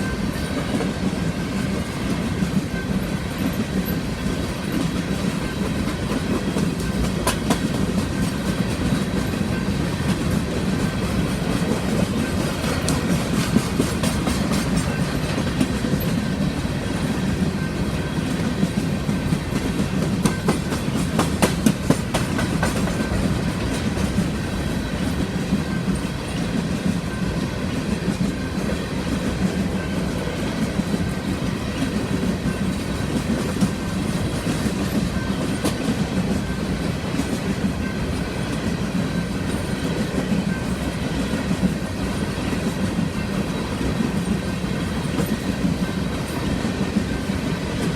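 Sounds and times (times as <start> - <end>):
wheels clacking over rail joints: 0.0 - 47.9.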